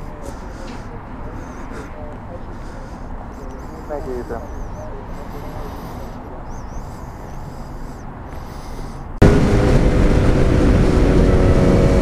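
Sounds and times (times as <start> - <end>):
low road noise: 0.0 - 12.0
vehicle engine drone: 0.0 - 12.0.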